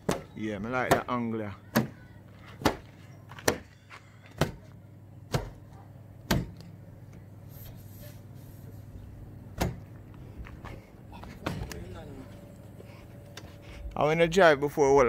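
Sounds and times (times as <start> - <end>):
faint low hum: 1.6 - 15.0.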